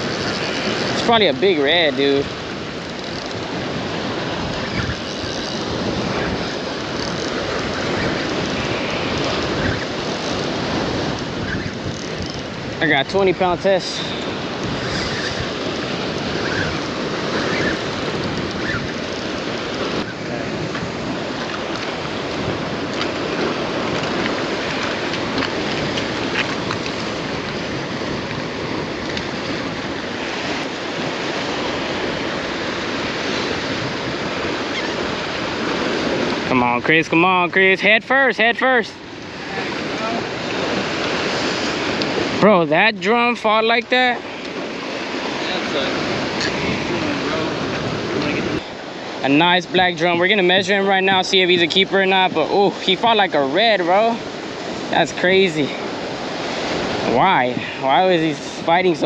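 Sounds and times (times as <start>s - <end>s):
wind buffeting microphone: 0.0s - 37.2s, 43.9s - 59.0s
surf breaking against rocks: 0.0s - 59.0s.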